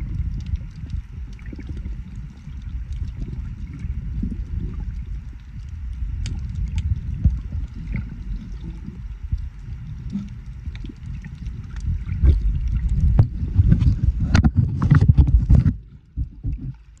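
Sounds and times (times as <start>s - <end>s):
underwater water rumble: 0.0s - 17.0s.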